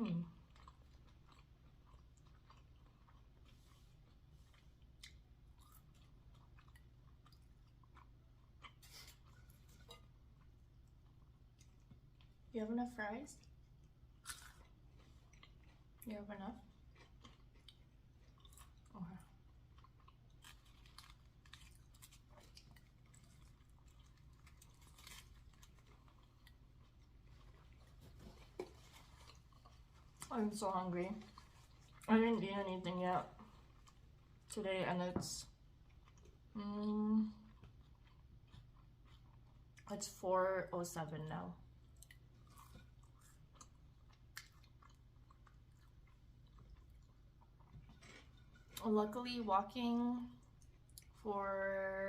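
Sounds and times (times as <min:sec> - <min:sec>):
person chewing food: 0:00.3 - 0:12.5, 0:13.4 - 0:30.3, 0:31.2 - 0:32.1, 0:33.4 - 0:34.5, 0:35.5 - 0:36.6, 0:37.4 - 0:39.9, 0:41.6 - 0:48.8, 0:50.4 - 0:51.2.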